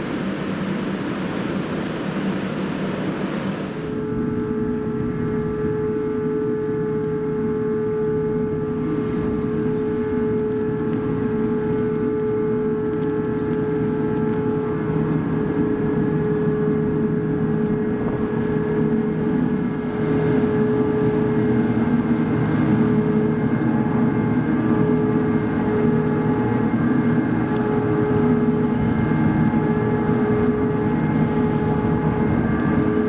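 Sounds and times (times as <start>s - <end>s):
ship engines droning: 0.0s - 33.0s.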